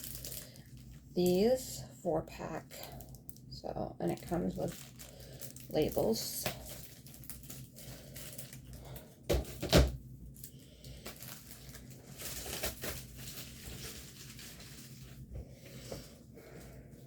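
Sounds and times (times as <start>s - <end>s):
packaging rustling and crinkling: 0.0s - 1.4s, 2.7s - 3.5s, 4.1s - 16.6s.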